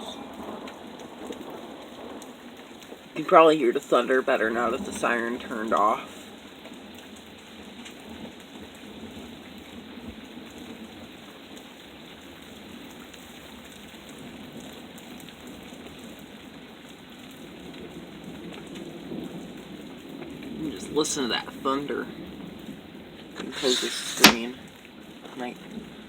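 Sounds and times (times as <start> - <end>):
steady rain falling: 0.0 - 23.5, 24.5 - 26.0.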